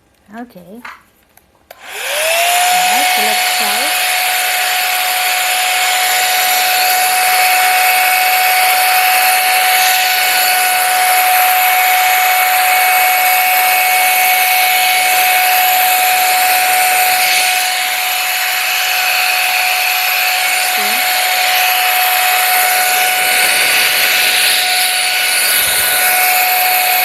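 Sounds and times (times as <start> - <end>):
hot air brush fan whine: 1.7 - 27.0.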